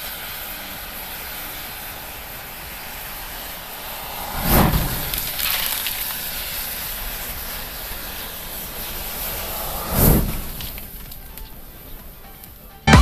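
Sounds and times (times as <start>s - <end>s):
matches flaring in a whoosh: 0.0s - 12.2s
matches burning with rushing noise: 0.0s - 12.7s
fire crackles: 0.0s - 12.9s.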